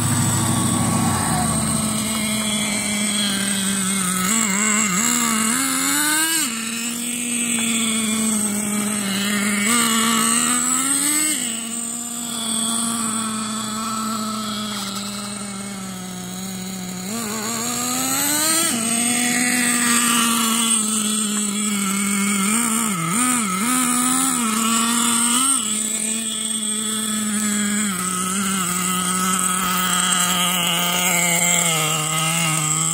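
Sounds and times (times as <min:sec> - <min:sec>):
toy truck motor buzzing: 0:00.0 - 0:32.9.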